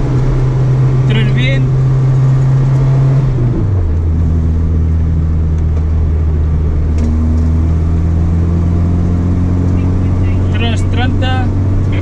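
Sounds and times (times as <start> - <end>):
car engine running under load: 0.0 - 12.0.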